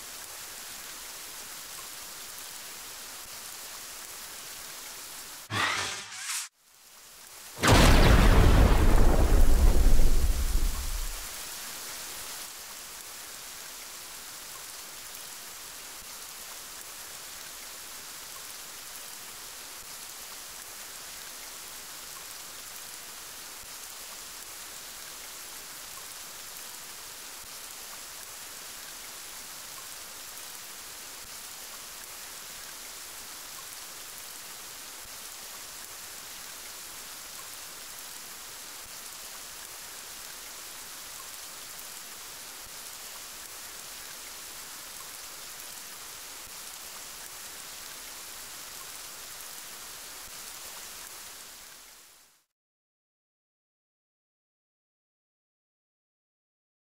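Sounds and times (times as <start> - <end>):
steady rain falling: 0.0 - 5.5, 6.5 - 52.5.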